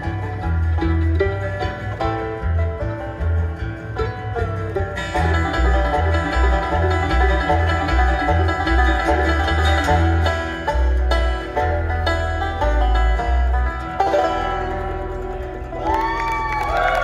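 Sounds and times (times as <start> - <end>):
bluegrass band playing: 0.0 - 17.0.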